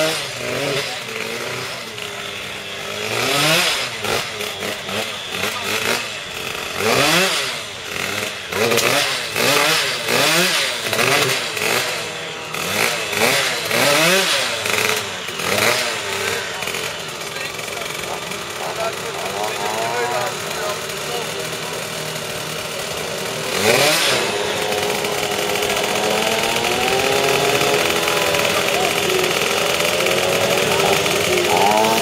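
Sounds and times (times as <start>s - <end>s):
moped engine revving: 0.0s - 32.0s.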